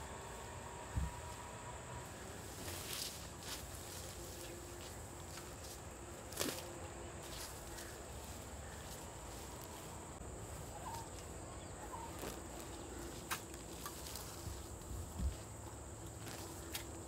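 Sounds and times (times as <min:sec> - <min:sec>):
faint clicks and rustles in grass: 0:00.1 - 0:17.0.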